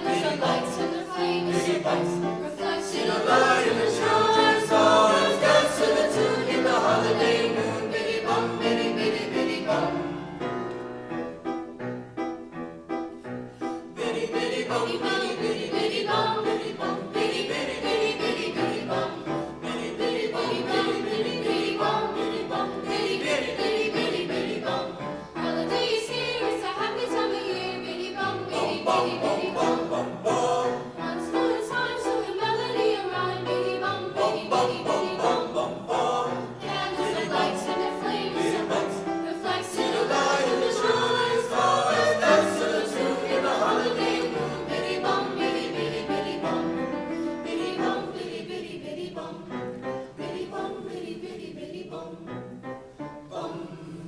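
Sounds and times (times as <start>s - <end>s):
choir singing: 0.0s - 11.6s, 13.6s - 54.0s.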